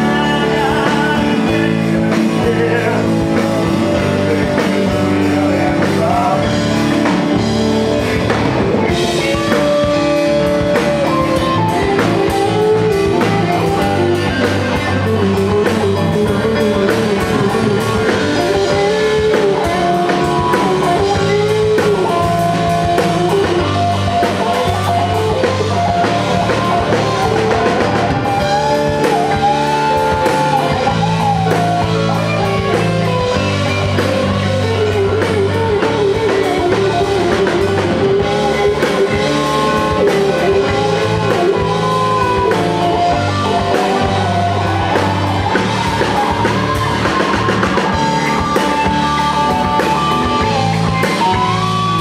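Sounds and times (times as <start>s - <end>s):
pitch-bending melody line: 0.0s - 52.0s
rock band playing live: 0.0s - 52.0s.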